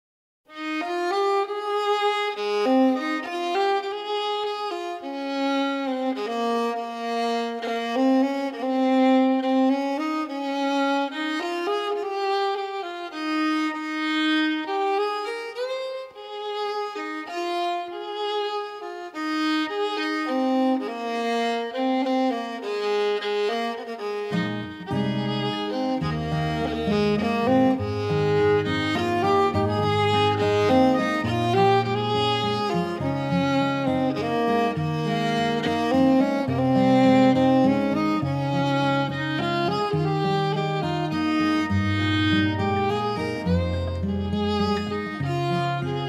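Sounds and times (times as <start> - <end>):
solo violin melody: 0.5 - 46.0.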